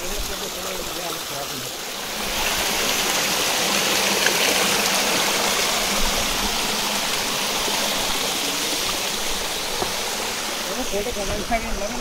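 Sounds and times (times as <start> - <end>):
stream splashing over rocks: 0.0 - 12.0.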